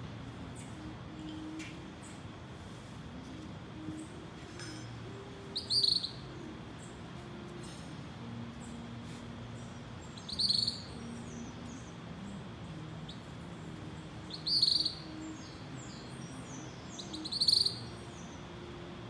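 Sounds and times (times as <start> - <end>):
songbird singing: 0.0 - 19.0
steady low hum: 0.0 - 19.0.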